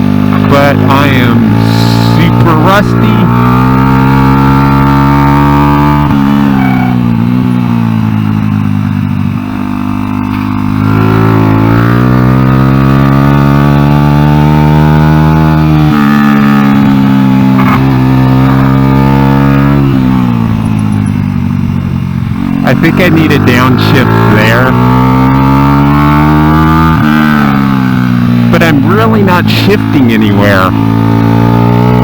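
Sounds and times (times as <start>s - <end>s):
motorcycle engine running hard: 0.0s - 32.0s.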